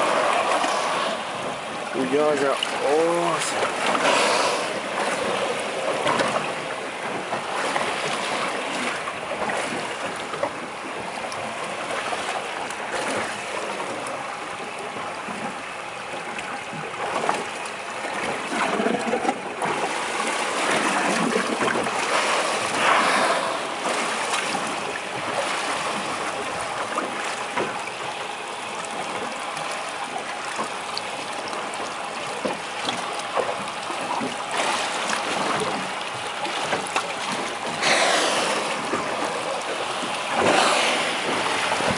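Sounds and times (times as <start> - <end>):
water lapping against boat hull: 0.0 - 41.9.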